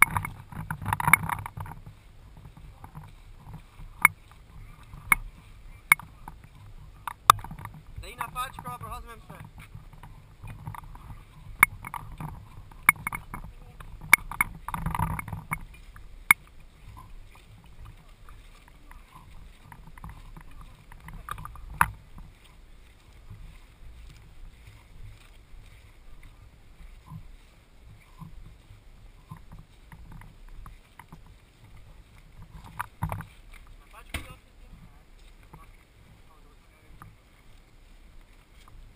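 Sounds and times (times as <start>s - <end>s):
clothing and gear rustling: 0.0s - 38.9s
footsteps on grass: 0.0s - 38.9s.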